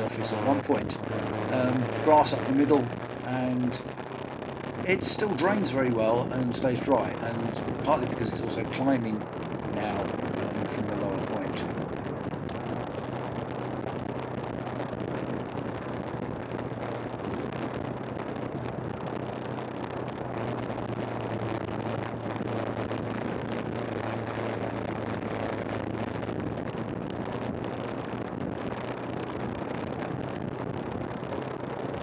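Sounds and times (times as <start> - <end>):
wind noise on microphone: 0.0 - 32.0.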